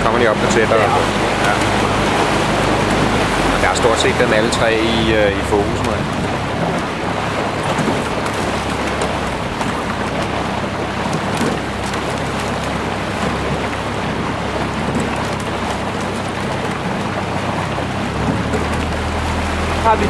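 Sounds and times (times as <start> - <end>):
lake water: 0.0 - 20.0
low hum: 0.0 - 20.0
wind: 0.0 - 20.0.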